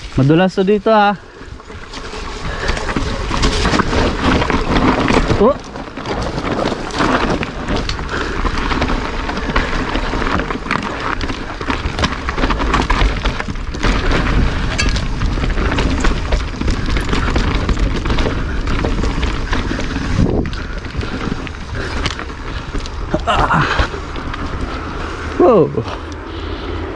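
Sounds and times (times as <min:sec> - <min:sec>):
bike clattering over bumps: 0:00.0 - 0:26.5
bike tyres rolling over dirt: 0:00.0 - 0:26.9
wind buffeting microphone: 0:01.2 - 0:26.9.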